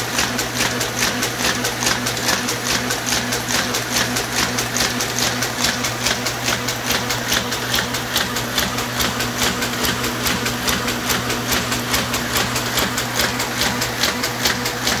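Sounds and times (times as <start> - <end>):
motor hum: 0.0 - 15.0
printing press gears clattering: 0.0 - 15.0.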